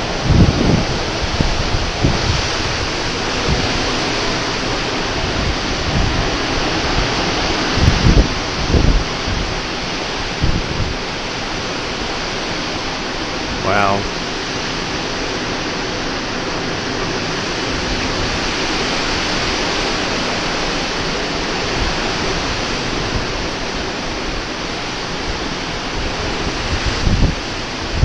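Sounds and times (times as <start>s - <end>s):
strong wind rushing: 0.0s - 28.0s
wind buffeting microphone: 0.0s - 28.0s.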